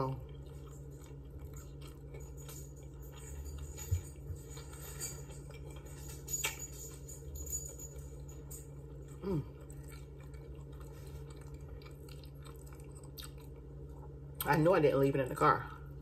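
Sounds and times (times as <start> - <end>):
person chewing: 0.0 - 14.6
low background hum: 0.0 - 16.0.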